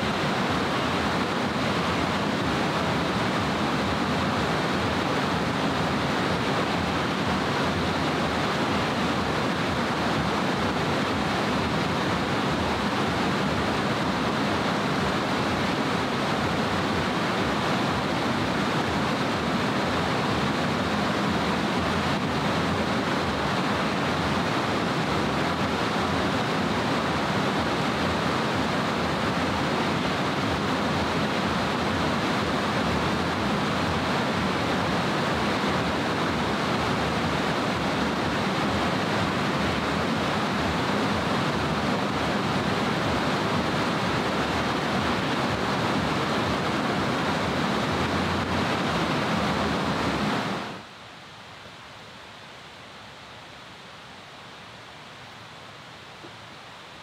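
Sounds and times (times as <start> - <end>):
fast-flowing water rushing: 0.0 - 57.0.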